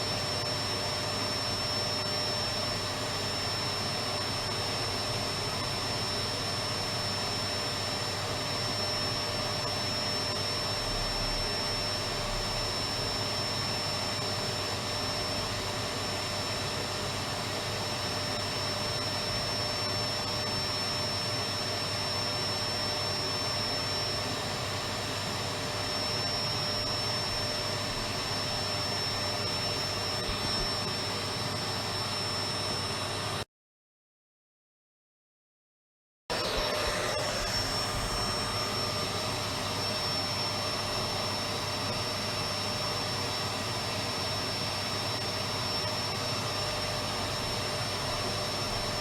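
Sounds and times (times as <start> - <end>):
vacuum cleaner running: 0.0 - 33.5, 36.3 - 49.0.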